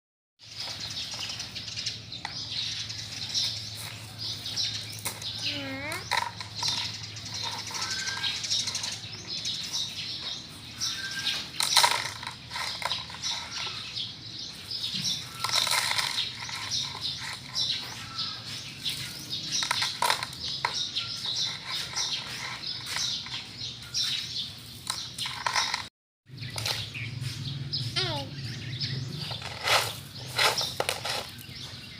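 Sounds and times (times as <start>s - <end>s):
small birds chirping: 0.4s - 31.9s.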